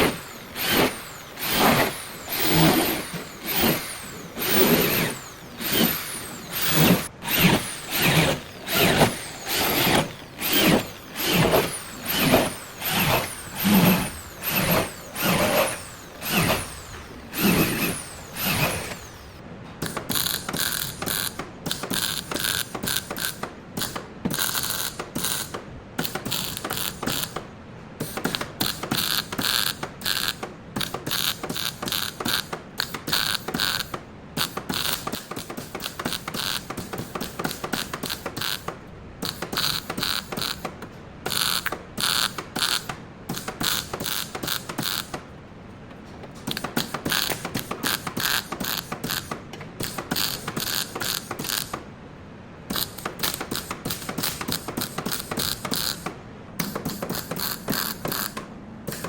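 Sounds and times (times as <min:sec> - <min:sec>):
rapid mechanical clicking: 0:00.0 - 0:51.9, 0:52.7 - 0:59.0.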